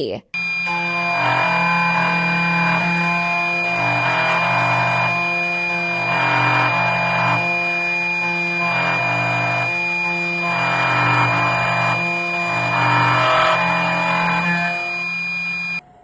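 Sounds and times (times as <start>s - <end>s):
motor tones stepping in pitch: 0.3s - 15.8s
key cutting machine whining: 0.4s - 15.8s.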